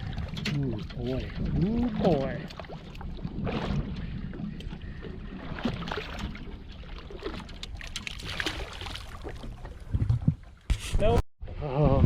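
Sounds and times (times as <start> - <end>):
water against a boat: 0.0 - 12.0
wind rumbling on microphone: 0.0 - 12.0.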